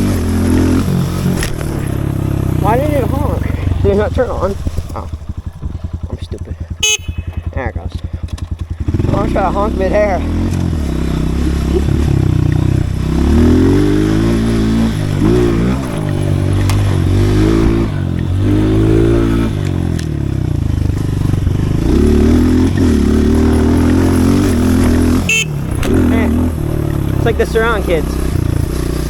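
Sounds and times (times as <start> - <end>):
pit bike engine revving: 0.0 - 29.0.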